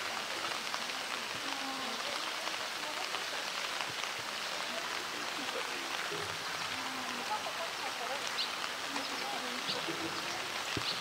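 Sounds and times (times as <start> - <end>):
faint voices: 0.0 - 11.0
steady rain falling: 0.0 - 11.0.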